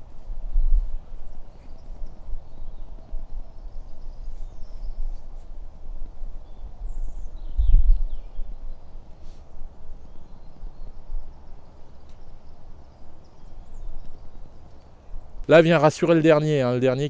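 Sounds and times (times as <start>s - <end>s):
wind rumble on microphone: 0.0s - 15.5s
faint bird chirps: 0.6s - 15.4s.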